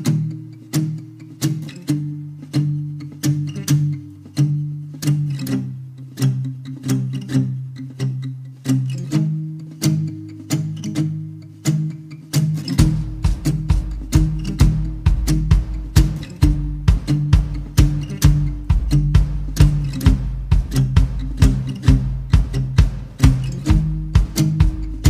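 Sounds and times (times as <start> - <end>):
plucked string notes: 0.0 - 25.0.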